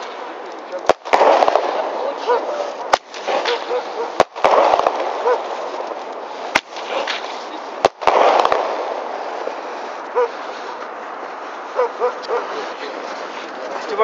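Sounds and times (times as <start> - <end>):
fireworks bangs: 0.0 - 14.0
fireworks hiss: 0.0 - 14.0.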